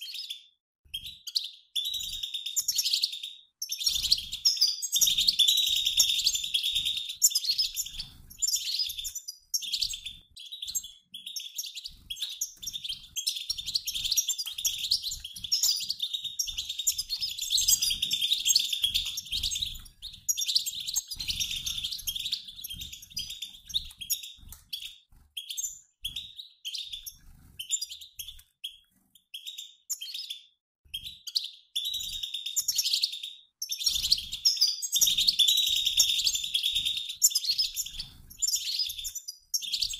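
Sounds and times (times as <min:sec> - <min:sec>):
goldfinches twittering: 0:01.3 - 0:28.8, 0:31.3 - 0:39.9.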